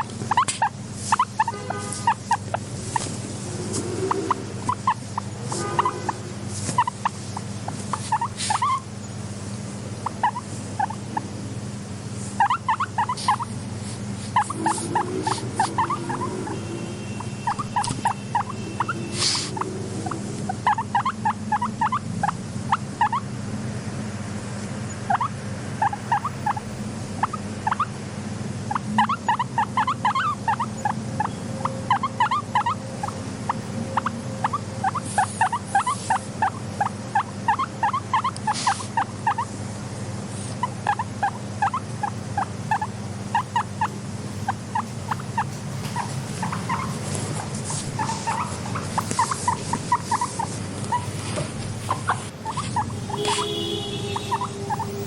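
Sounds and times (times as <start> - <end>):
guinea pig rumbling purrs: 0.0 - 8.9, 9.9 - 11.6, 12.2 - 23.3, 24.9 - 28.0, 28.6 - 55.0
guinea pigs squeaking: 0.0 - 9.2, 10.0 - 11.5, 12.2 - 23.3, 24.9 - 28.0, 28.6 - 39.6, 40.2 - 55.0.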